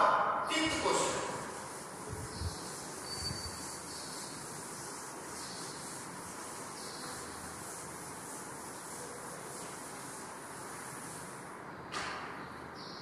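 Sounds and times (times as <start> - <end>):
steady high hiss: 0.0 - 11.9
duster rubbing on chalkboard: 0.7 - 11.6.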